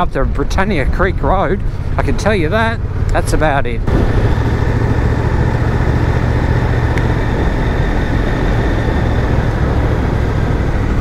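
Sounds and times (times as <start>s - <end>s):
motorcycle engine drone: 0.0s - 11.0s
wind: 0.0s - 11.0s.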